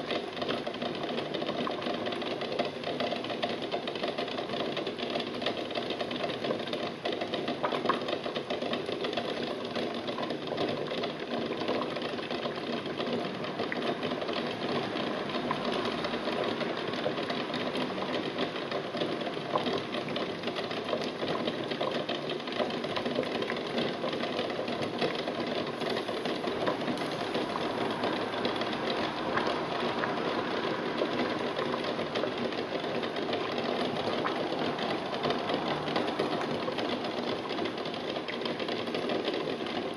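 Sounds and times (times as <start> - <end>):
fast constant ticking: 0.0 - 39.9
water boiling in a pot: 0.0 - 39.9.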